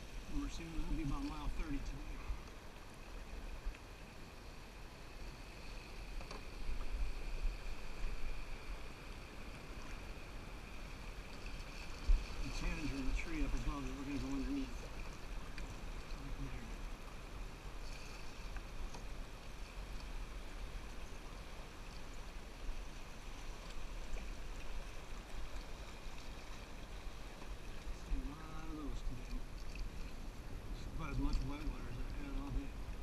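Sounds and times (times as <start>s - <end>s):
river water gurgling around hull: 0.0s - 33.0s.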